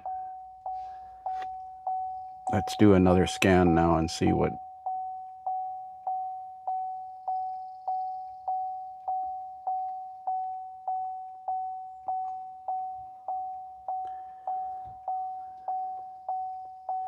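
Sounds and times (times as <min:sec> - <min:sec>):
dashboard warning chime: 0:00.0 - 0:17.0.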